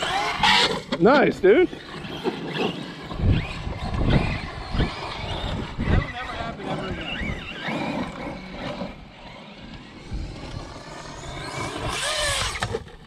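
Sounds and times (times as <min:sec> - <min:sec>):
electric motor whine: 0:00.0 - 0:13.0
tyres scrabbling on dirt: 0:00.0 - 0:13.0.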